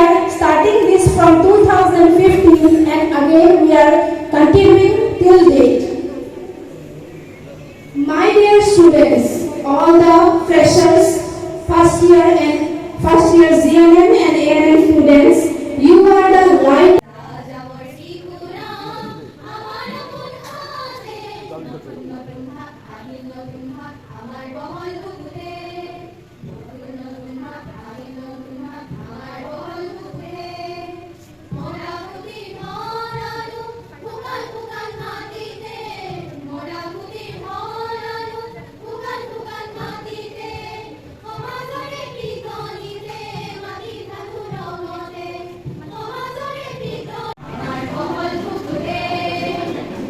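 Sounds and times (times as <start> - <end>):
group of voices singing: 9.2 - 50.0.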